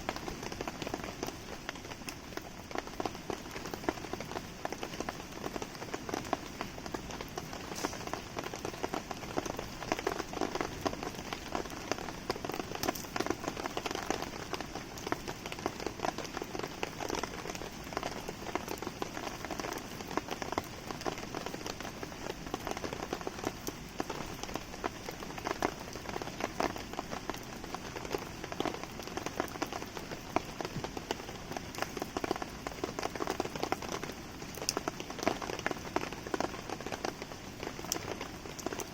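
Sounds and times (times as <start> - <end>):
crackling campfire: 0.0 - 38.9
steady rain falling: 0.0 - 38.9.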